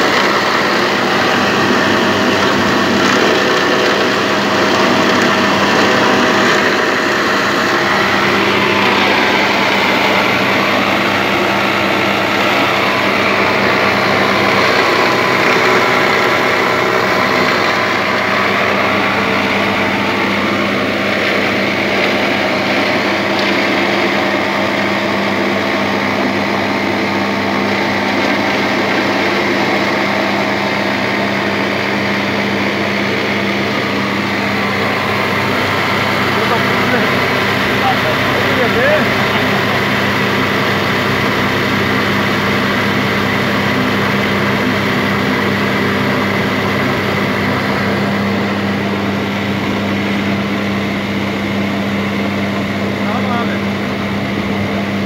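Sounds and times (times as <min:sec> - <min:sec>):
constant motor hum: 0:00.0 - 0:55.0
paste machine churning: 0:00.0 - 0:55.0.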